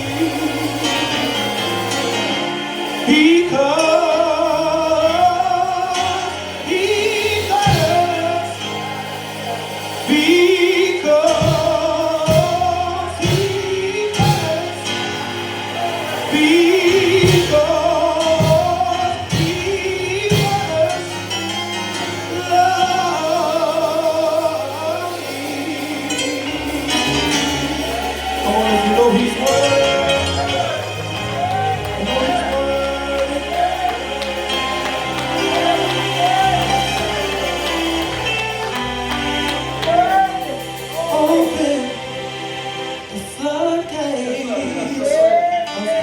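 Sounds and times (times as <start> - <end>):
sustained instrumental accompaniment: 0.0 - 46.0.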